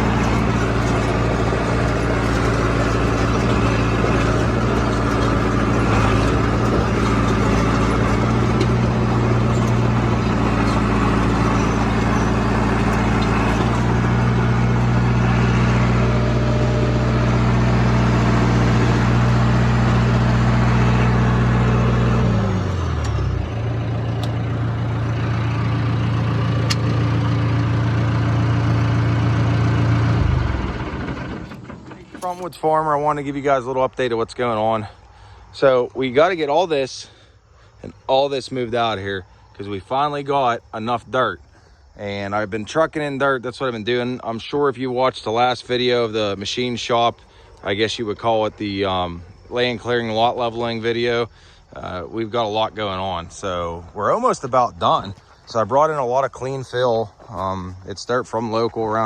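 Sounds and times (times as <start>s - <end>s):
diesel engine running: 0.0s - 40.7s, 41.6s - 59.0s.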